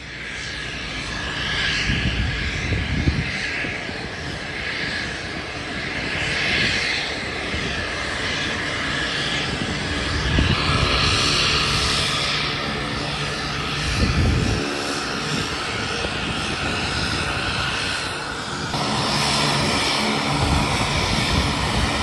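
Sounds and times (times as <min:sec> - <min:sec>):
floatplane propeller engine running: 0:00.0 - 0:22.0.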